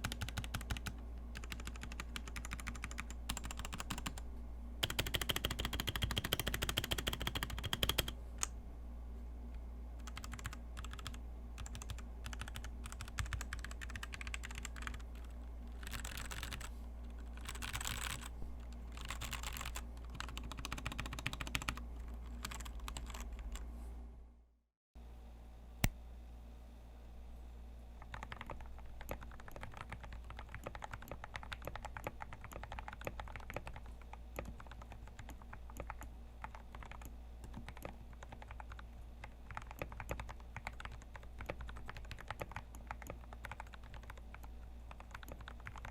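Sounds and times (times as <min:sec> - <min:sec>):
mechanical keyboard typing: 0:00.0 - 0:04.2, 0:04.8 - 0:08.5, 0:10.0 - 0:23.6, 0:28.0 - 0:45.9.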